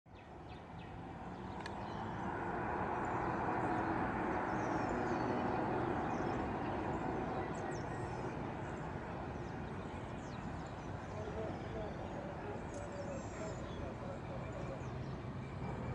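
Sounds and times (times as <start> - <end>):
turboprop engines droning: 0.3 - 15.9.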